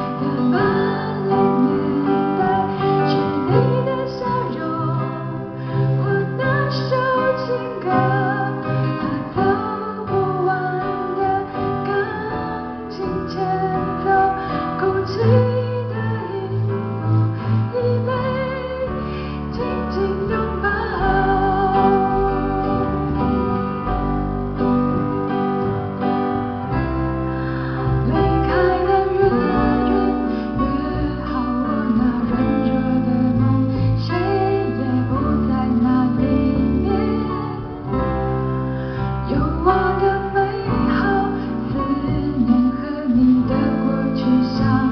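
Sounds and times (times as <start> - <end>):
bass: 0.0 - 44.9
deep bass line: 0.0 - 44.9
guitar: 0.0 - 44.9
woman singing: 0.0 - 44.9.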